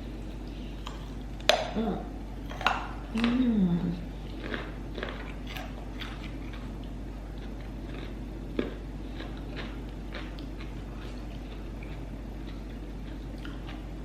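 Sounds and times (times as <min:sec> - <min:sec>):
chewing crunchy vegetables: 0:00.0 - 0:14.0
low hum: 0:00.0 - 0:14.0.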